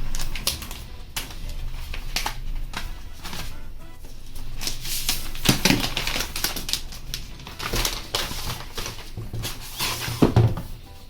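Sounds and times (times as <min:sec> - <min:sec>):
packing material crackling: 0:00.0 - 0:11.0.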